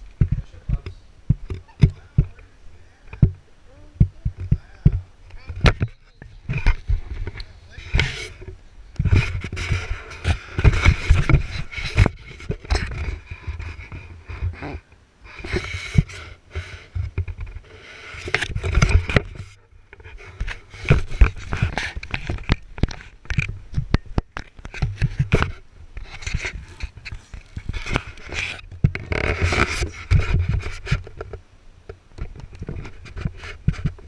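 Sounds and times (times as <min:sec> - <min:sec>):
camera handling rubbing and knocks: 0:04.0 - 0:34.0.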